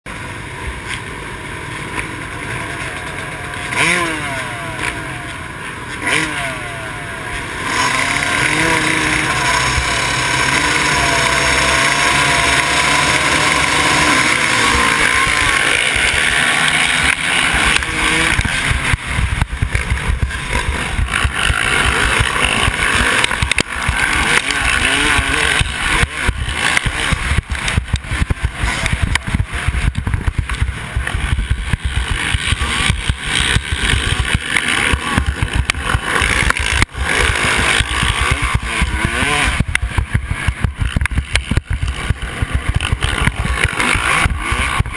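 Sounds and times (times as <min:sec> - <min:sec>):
dirt bike engines revving: 0:00.1 - 0:44.9.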